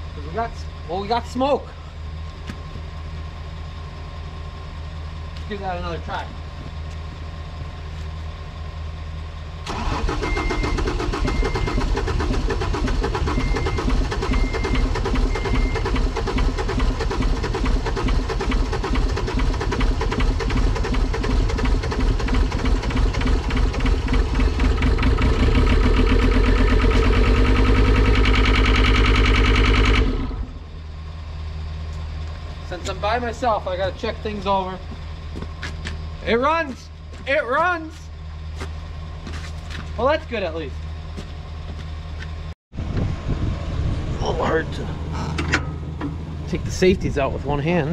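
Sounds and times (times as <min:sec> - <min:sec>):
diesel engine cranking: 0:00.0 - 0:47.9
diesel engine running: 0:00.0 - 0:47.9.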